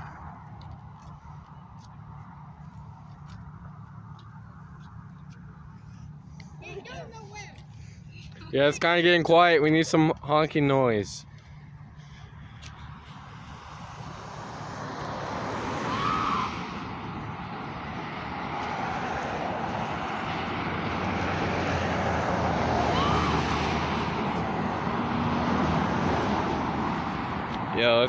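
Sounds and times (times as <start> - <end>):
highway traffic passing: 0.0 - 28.0.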